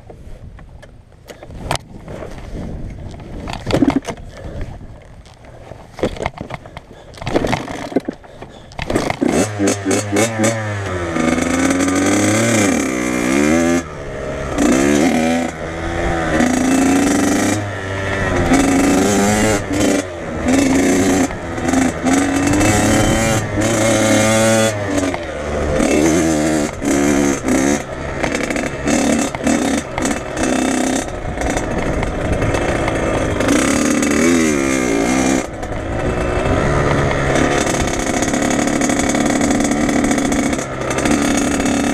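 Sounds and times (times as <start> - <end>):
dirt bike engine revving: 6.6 - 41.9.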